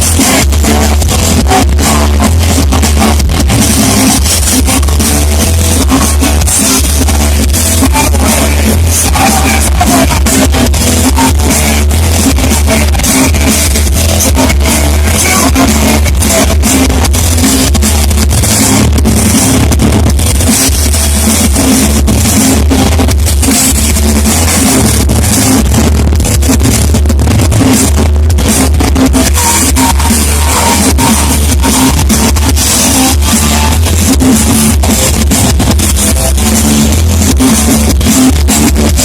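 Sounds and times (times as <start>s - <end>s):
live hard rock band: 0.0s - 39.0s.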